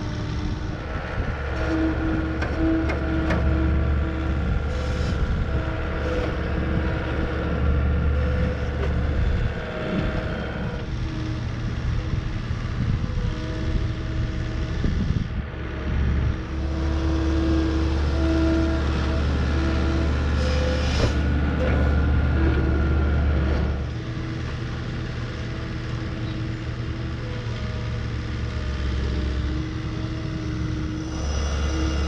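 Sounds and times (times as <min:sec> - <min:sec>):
engine whine: 0:00.0 - 0:32.0
skid steer engine running: 0:00.0 - 0:32.0.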